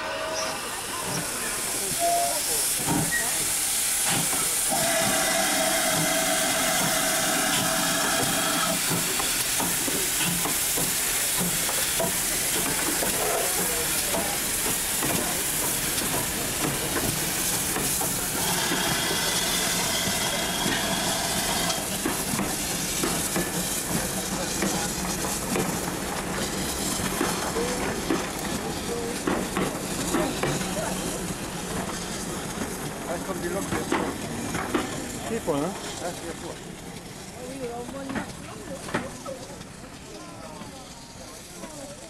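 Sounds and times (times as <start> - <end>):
steam hissing: 0.0 - 42.0.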